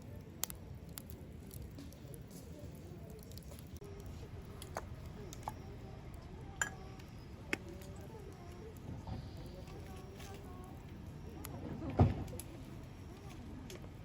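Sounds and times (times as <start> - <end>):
faint distant voices: 0.0 - 14.0.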